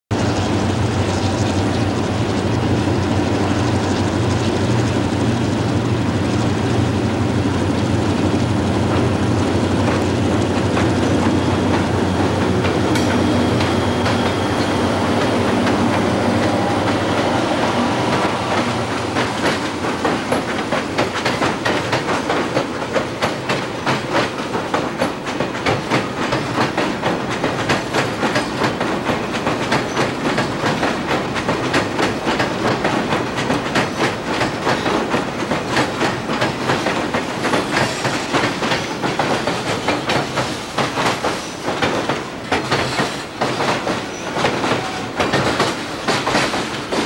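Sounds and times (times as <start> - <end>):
diesel locomotive engine drone: 0.1 - 47.0
train wheels clacking on rails: 0.1 - 47.0.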